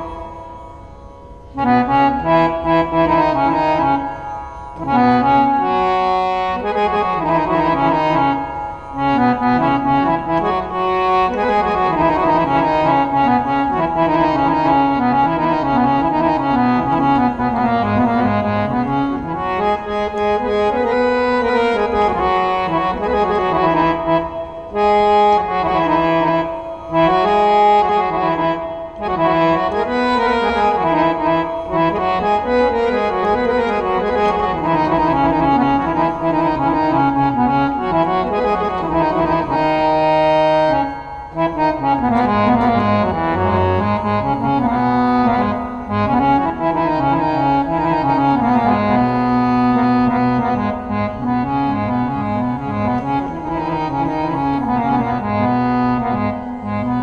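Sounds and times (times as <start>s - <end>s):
harmonium melody: 0.0s - 57.0s.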